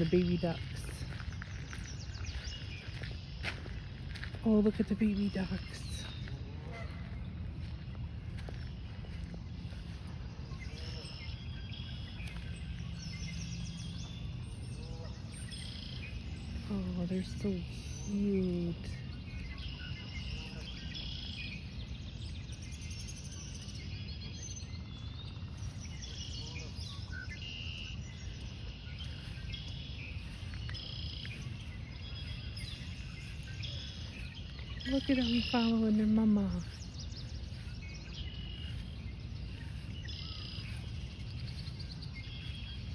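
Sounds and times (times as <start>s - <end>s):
low outdoor rumble: 0.0s - 42.9s
small birds chirping: 0.0s - 42.9s.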